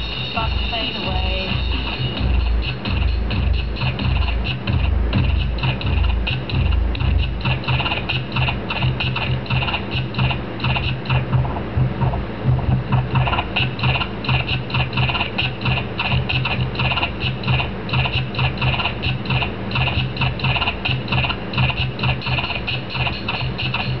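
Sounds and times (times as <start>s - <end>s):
beat-driven instrumental music: 0.0s - 24.0s.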